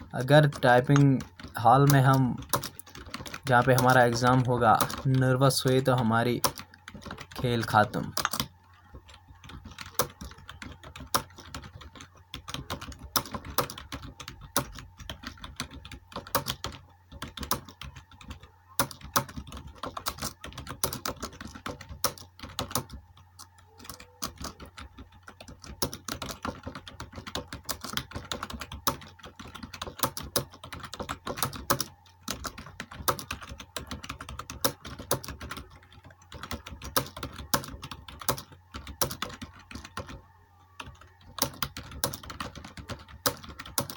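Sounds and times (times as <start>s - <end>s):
fast typing on keyboard: 0.0s - 43.9s
low steady hum: 0.0s - 43.9s.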